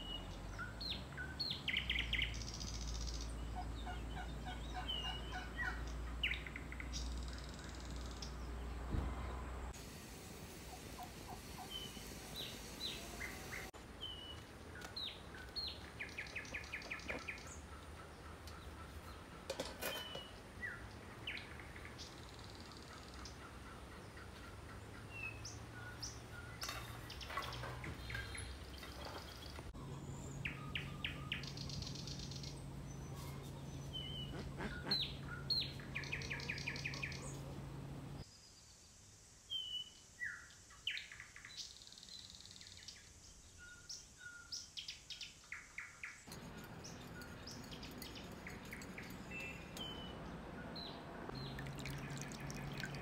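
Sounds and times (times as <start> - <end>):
songbirds chirping and trilling: 0.0 - 9.7, 10.5 - 53.0.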